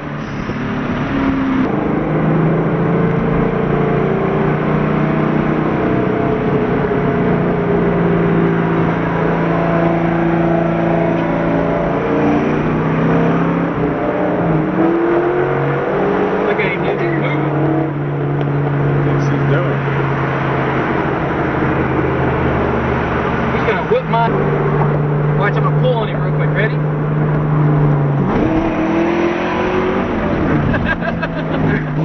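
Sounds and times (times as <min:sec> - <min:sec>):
car engine droning: 0:00.0 - 0:32.0.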